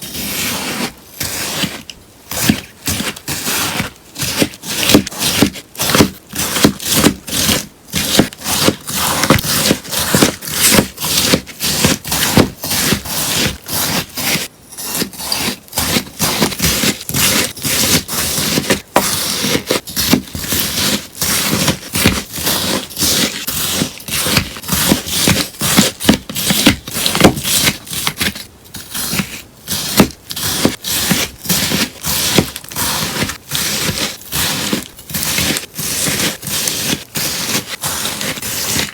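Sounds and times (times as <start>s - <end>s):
scissors cutting sponge: 0.0s - 38.9s.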